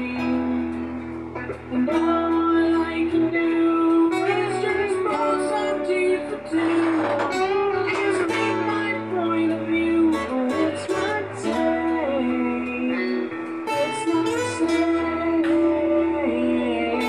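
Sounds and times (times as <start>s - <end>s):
acoustic guitar: 0.0s - 17.0s
low bass line: 0.0s - 17.0s.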